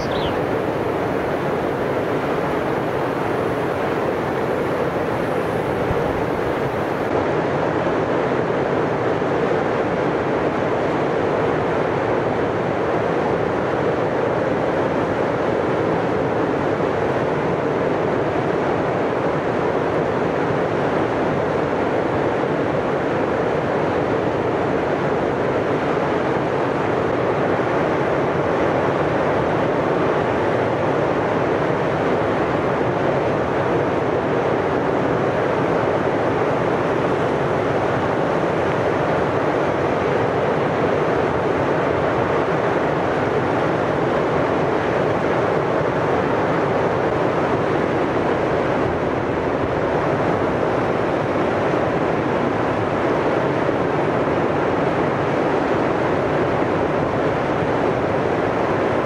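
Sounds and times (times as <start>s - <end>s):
river rushing over rapids: 0.0s - 7.4s, 14.3s - 59.0s.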